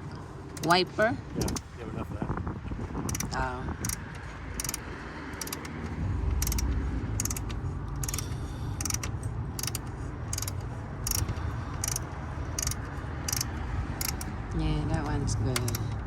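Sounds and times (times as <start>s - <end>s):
low rumble: 1.2s - 16.0s
ratchet wrench clicking: 1.4s - 1.7s, 3.0s - 16.0s.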